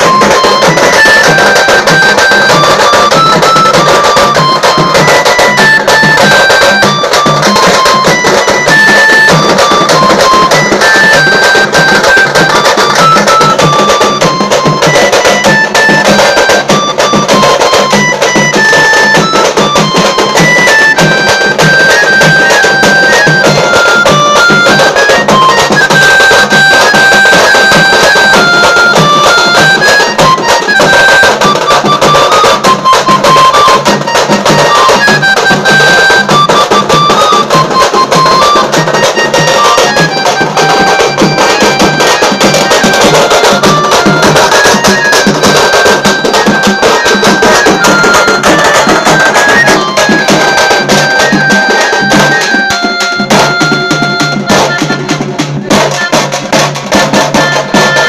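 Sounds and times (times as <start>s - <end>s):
fast dense drumming: 0.0s - 58.0s
reedy wind instrument melody: 0.0s - 58.0s.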